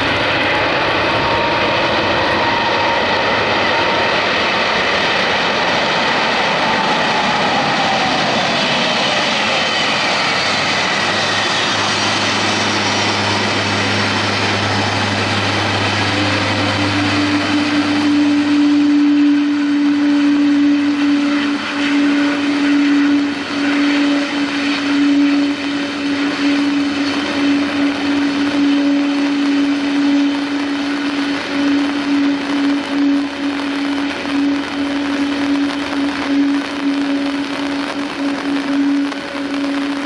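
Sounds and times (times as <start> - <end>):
airliner droning hum: 0.0 - 40.0
heavy rain and spray: 0.0 - 40.0
jet engines winding down: 0.0 - 40.0.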